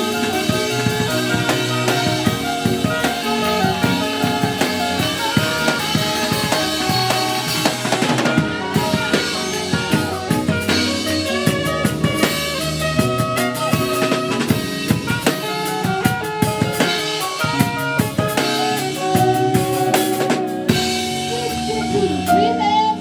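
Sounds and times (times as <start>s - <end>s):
bass drum and snare hits: 0.0s - 21.2s
gospel band playing: 0.0s - 23.0s
sustained keyboard notes: 0.0s - 23.0s.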